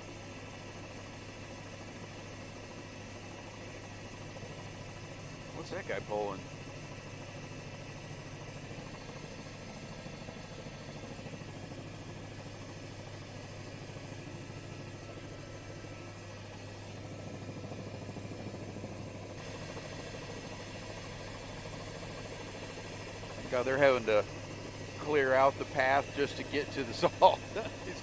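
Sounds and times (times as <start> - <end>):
helicopter cabin drone: 0.0 - 28.0.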